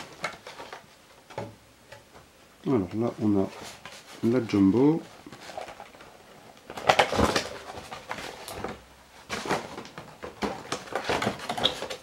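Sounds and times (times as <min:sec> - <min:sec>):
packaging rustling and clicking: 0:00.0 - 0:01.5, 0:03.0 - 0:12.0.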